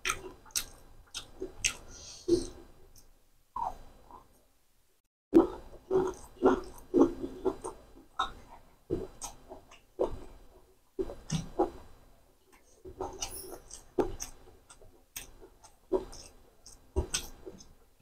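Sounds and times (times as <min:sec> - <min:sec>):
person chewing with lip-smacking: 0:00.0 - 0:04.3, 0:05.4 - 0:10.4, 0:12.5 - 0:17.8.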